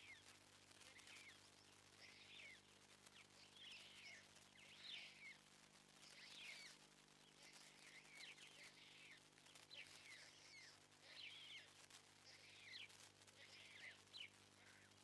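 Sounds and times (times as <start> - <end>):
low steady hum: 0.0 - 15.0
songbird singing: 0.0 - 15.0.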